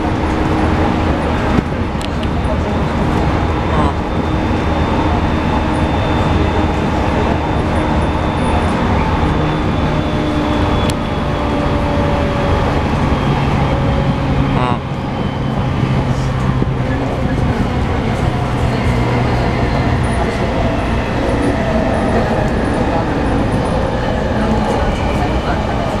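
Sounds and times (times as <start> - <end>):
traction motor whine: 0.0 - 26.0
train wheels rumbling on rail: 0.0 - 26.0.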